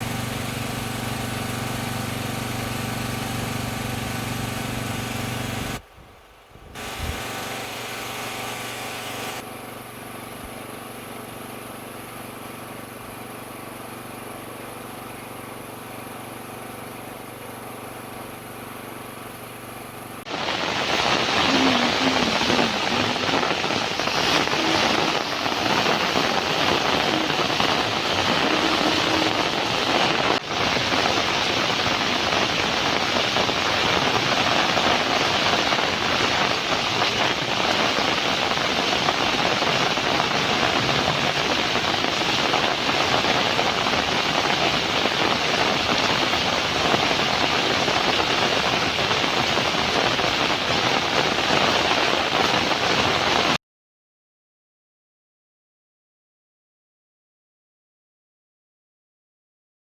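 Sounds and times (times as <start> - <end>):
heavy rain falling: 0.0 - 5.9, 6.6 - 19.2, 20.2 - 53.6.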